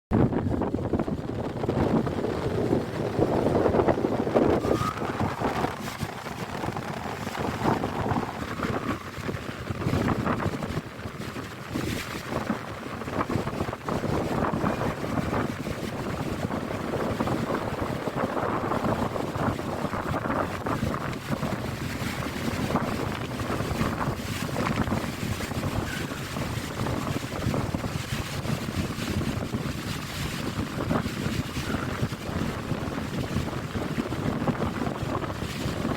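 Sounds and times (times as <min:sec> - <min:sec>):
wind buffeting microphone: 0:00.1 - 0:35.9.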